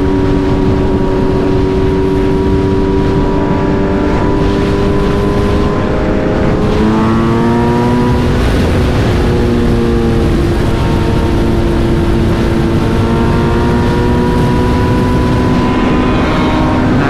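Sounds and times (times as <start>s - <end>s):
motorcycle engine accelerating: 0.0s - 17.0s
wind noise: 0.0s - 17.0s.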